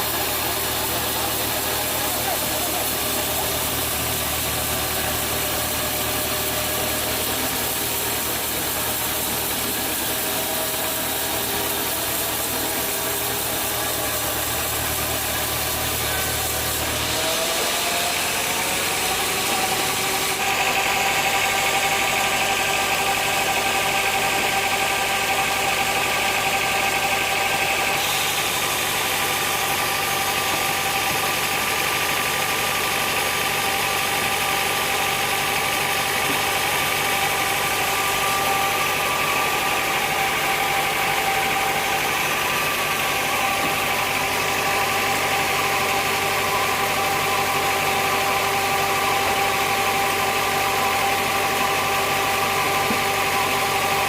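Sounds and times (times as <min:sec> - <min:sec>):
sawmill machinery hum: 0:00.0 - 0:54.0.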